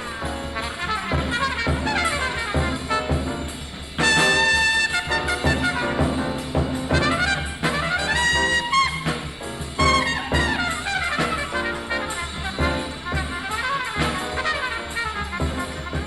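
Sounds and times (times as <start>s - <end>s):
bebop jazz band playing: 0.0s - 16.0s
trumpet playing fast runs: 0.0s - 16.0s.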